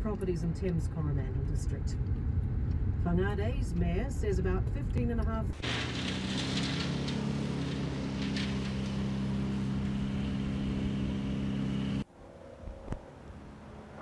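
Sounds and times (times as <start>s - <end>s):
engine humming: 0.0s - 12.1s.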